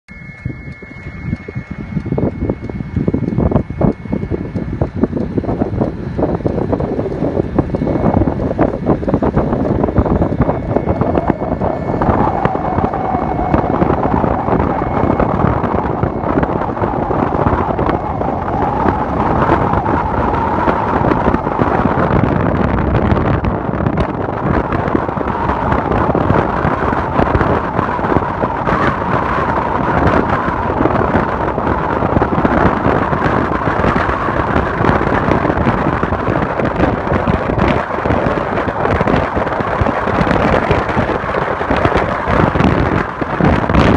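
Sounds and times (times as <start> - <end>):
faint hum: 0.1 - 43.9
car interior road and engine noise: 0.2 - 43.9.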